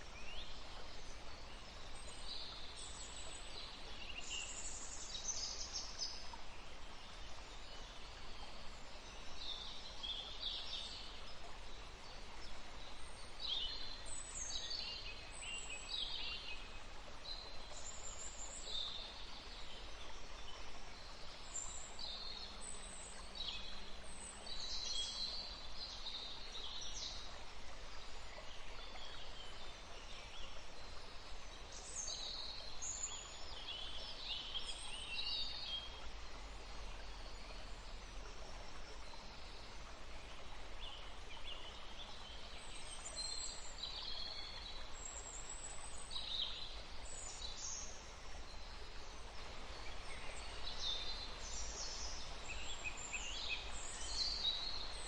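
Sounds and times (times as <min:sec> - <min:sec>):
background hiss: 0:00.0 - 0:55.0
songbirds chirping: 0:00.0 - 0:55.0.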